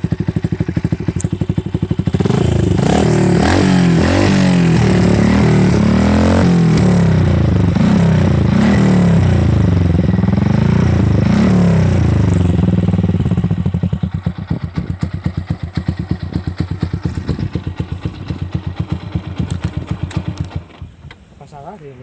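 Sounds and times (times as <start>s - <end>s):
motorcycle engine revving: 0.0s - 21.1s
motorcycle engine idling: 0.0s - 21.4s.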